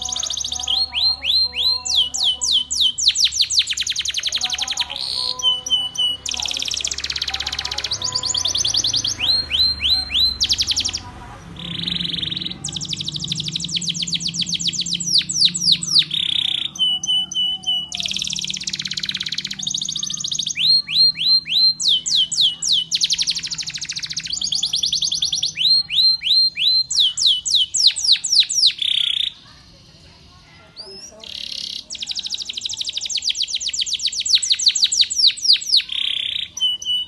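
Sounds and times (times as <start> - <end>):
canary singing: 0.0 - 37.0.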